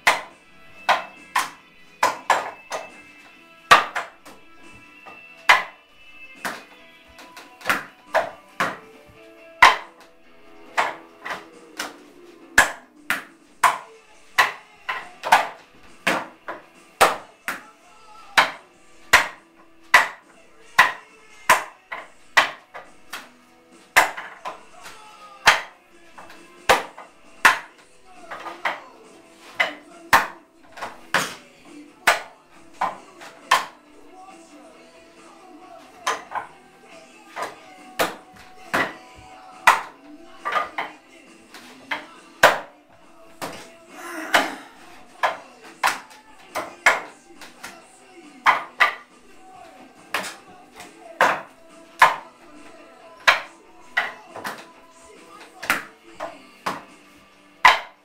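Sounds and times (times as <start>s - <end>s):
hands striking wooden dummy: 0.0s - 5.8s, 6.4s - 10.1s, 10.7s - 17.7s, 18.3s - 33.8s, 35.8s - 36.6s, 37.2s - 42.8s, 43.4s - 58.0s.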